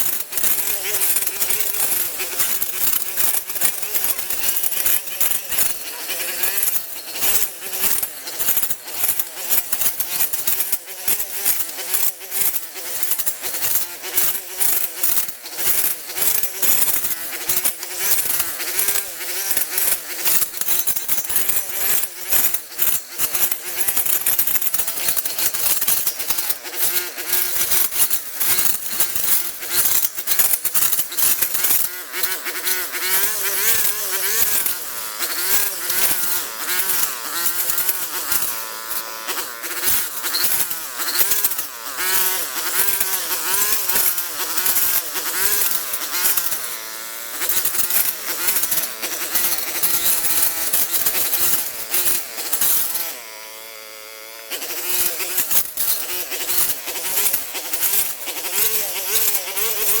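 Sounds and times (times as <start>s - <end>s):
clicking and scraping: 0.0s - 53.3s, 54.4s - 60.0s
small motor buzzing drone: 0.0s - 60.0s.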